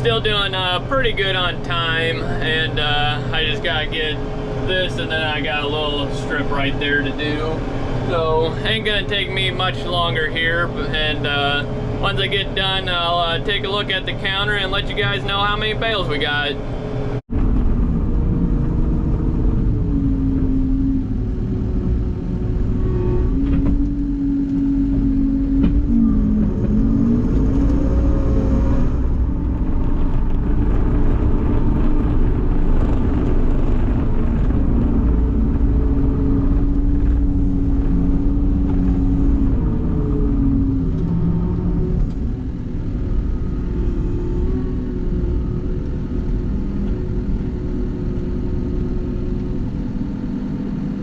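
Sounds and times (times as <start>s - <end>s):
tractor engine running: 0.0s - 22.8s, 23.4s - 50.6s.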